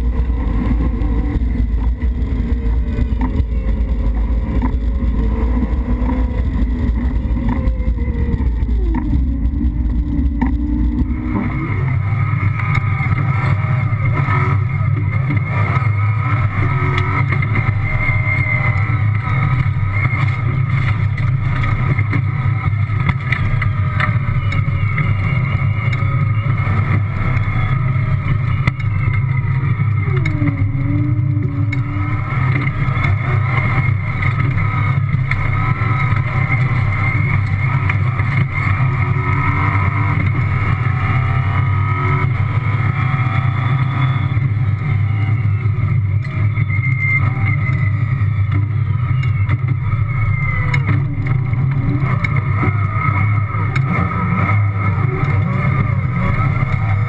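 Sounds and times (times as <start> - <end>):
rally car engine drone: 0.0 - 57.0.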